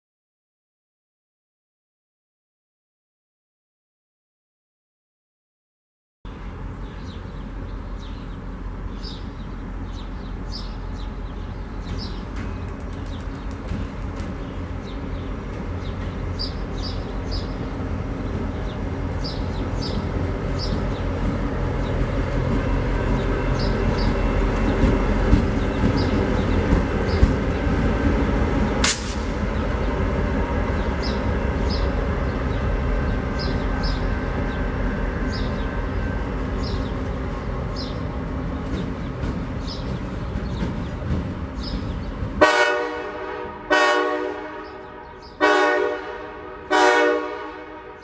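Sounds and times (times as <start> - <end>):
birds chirping: 6.3 - 46.7
diesel locomotive engine running: 6.3 - 48.0.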